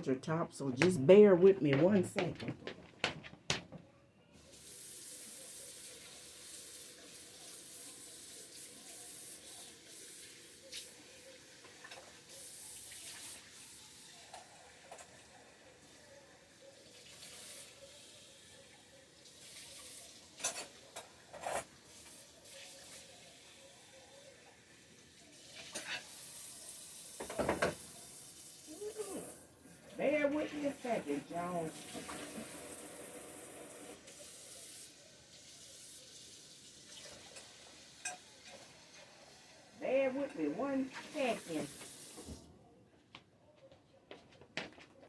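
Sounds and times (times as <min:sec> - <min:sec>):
water running: 0:04.4 - 0:42.5.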